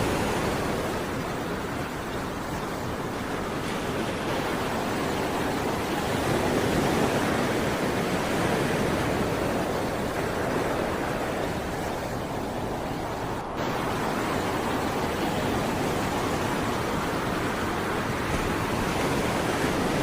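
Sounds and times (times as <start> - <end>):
sea waves washing onto shore: 0.0 - 20.0.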